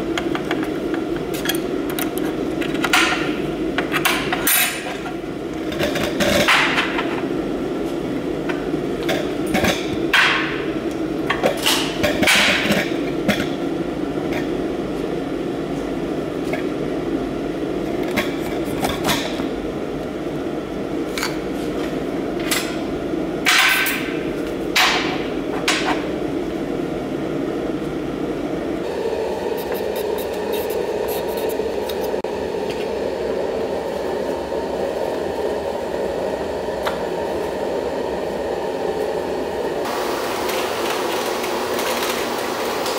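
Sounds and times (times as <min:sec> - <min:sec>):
steady hum: 0:00.0 - 0:41.2.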